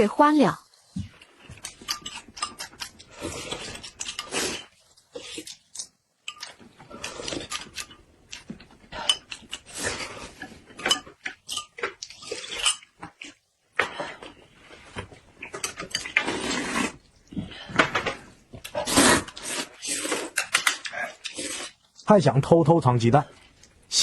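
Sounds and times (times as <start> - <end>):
chewing and mouth noises: 1.0 - 22.1.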